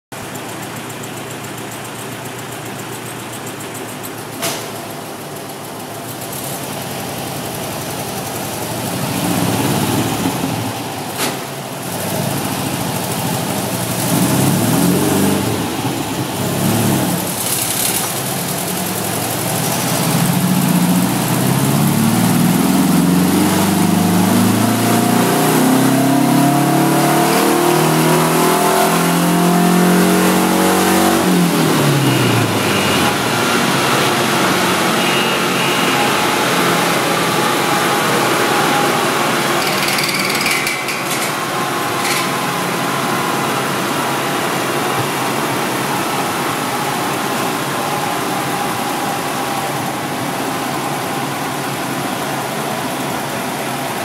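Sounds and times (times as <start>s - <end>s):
car engine revving: 6.2s - 11.1s, 11.7s - 54.0s.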